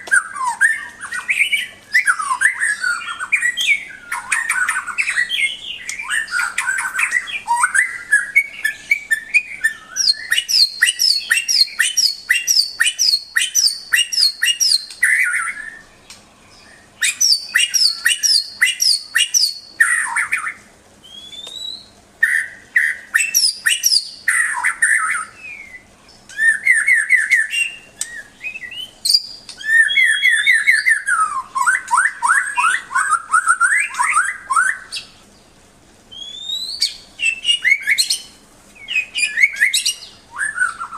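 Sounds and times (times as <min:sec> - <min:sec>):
bird whistled notes: 0:00.0 - 0:15.8, 0:17.0 - 0:35.1, 0:36.1 - 0:40.9
bird singing chirps and trills: 0:00.0 - 0:40.9.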